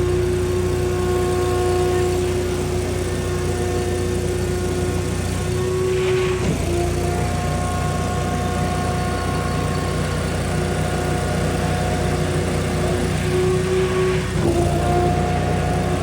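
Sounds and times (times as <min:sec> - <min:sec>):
vacuum engine hum: 0:00.0 - 0:16.0
whining tone: 0:00.0 - 0:16.0.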